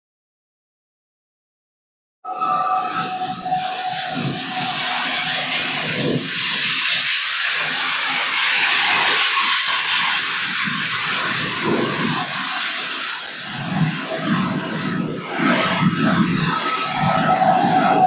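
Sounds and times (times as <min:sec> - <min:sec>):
loud steady rushing noise: 0:02.3 - 0:18.0
low rumbles: 0:02.5 - 0:18.0.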